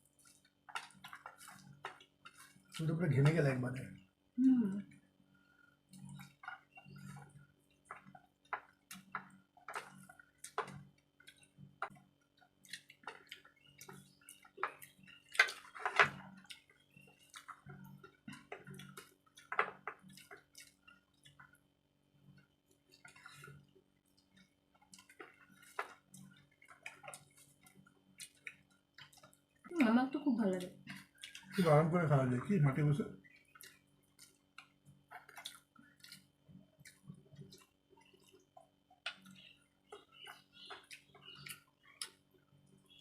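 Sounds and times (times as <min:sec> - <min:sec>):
close-up chewing and mouth smacks: 0:00.0 - 0:03.0, 0:04.8 - 0:29.9, 0:30.5 - 0:32.6, 0:33.2 - 0:43.0.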